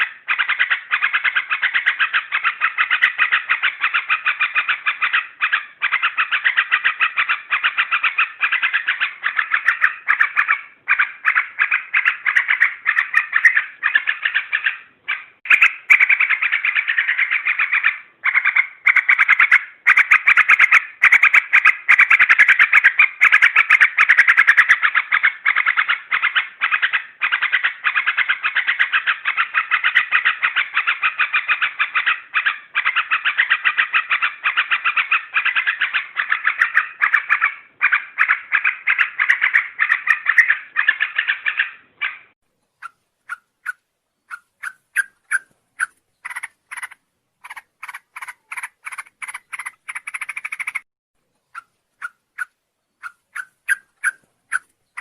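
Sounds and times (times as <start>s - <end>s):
bird calling with rapid chatter: 0.0s - 55.0s.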